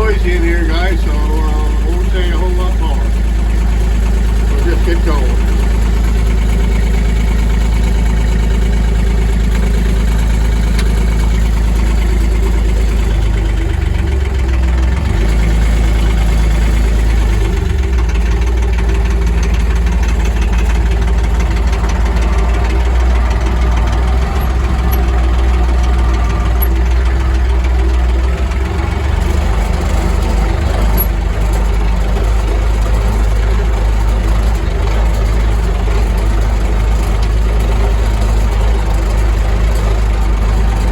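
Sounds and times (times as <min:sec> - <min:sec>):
diesel tractor engine droning: 0:00.0 - 0:40.9.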